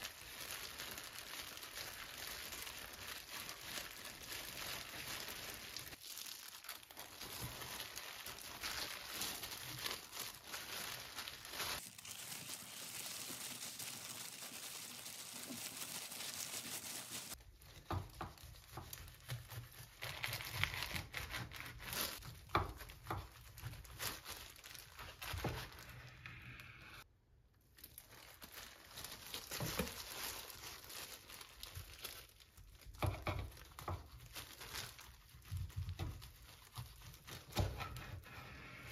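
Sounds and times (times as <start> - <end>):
plastic gloves crinkling: 0.0 - 26.6, 27.4 - 38.8.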